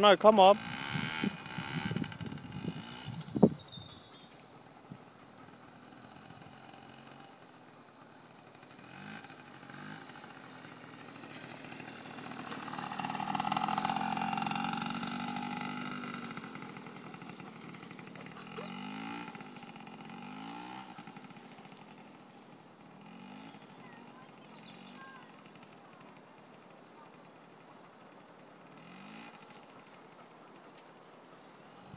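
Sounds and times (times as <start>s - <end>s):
small motorbike engine revving: 0.0s - 31.9s.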